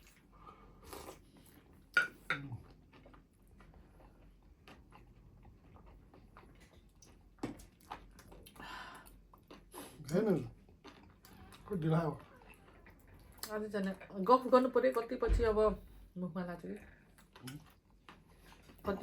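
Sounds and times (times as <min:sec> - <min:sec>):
chewing: 0:00.0 - 0:14.2, 0:17.0 - 0:19.0.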